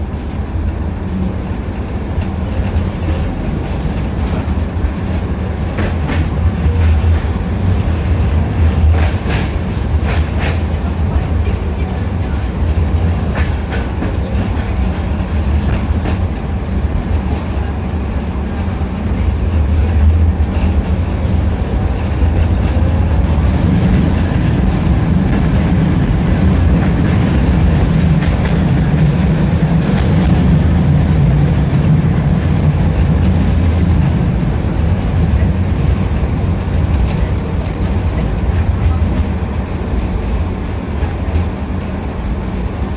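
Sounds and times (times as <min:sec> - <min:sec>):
tram wheels rumbling: 0:00.0 - 0:42.9.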